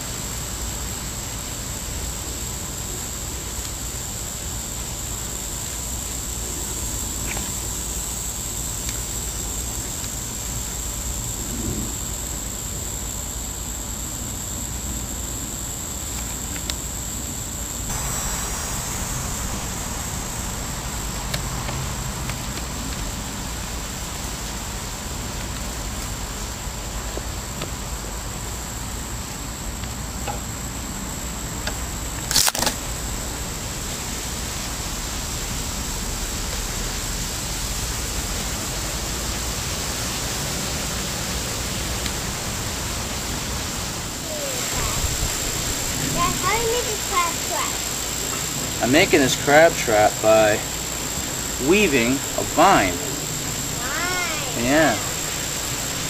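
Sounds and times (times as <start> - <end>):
steady hiss and low rumble: 0.0 - 56.0.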